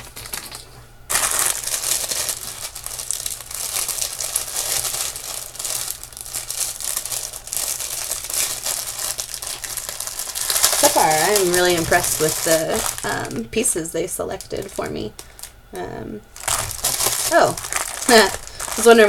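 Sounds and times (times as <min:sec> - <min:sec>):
packaging rustling and crinkling: 0:00.0 - 0:13.5, 0:14.3 - 0:15.6, 0:16.3 - 0:19.0.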